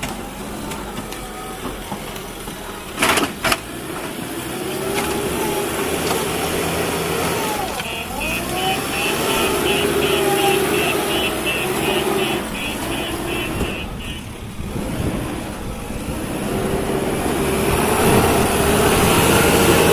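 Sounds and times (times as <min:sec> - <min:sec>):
heavy diesel machinery: 0:00.0 - 0:19.9.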